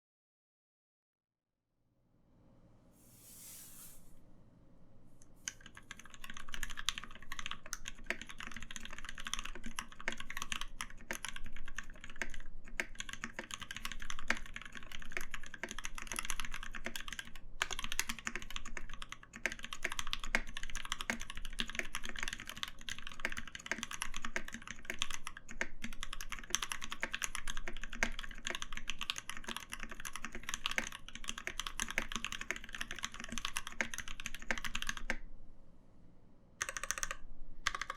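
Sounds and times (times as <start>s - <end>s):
mechanical keyboard typing: 5.5s - 35.2s, 36.6s - 37.9s.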